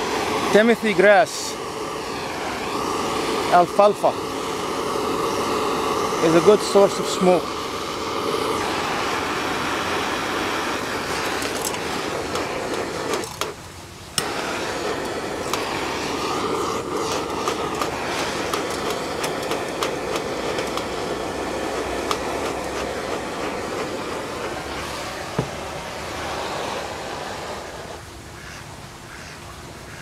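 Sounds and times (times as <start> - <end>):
gas torch flame blowing: 0.0 - 28.1.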